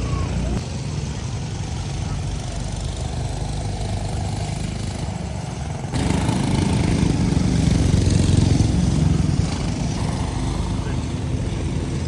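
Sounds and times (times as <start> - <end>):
go-kart engines buzzing: 0.0 - 12.0.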